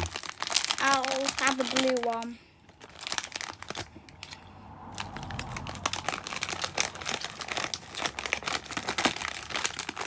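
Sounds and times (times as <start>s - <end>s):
plastic snack packaging crinkling: 0.0s - 4.4s, 5.0s - 10.0s.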